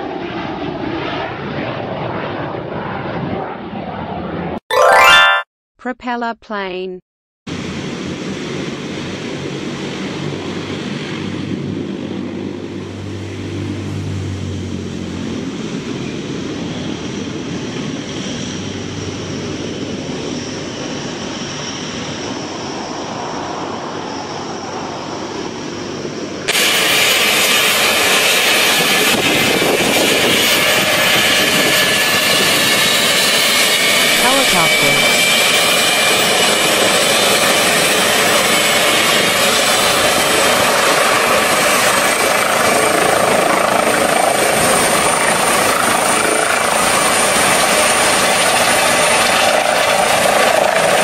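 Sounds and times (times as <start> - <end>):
helicopter turbine and rotor: 0.0 - 4.6, 7.5 - 51.0.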